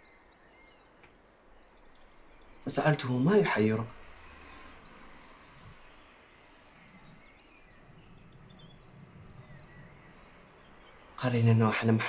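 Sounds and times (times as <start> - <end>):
distant bird chirps: 0.0 - 12.0
low steady hum: 0.0 - 12.0.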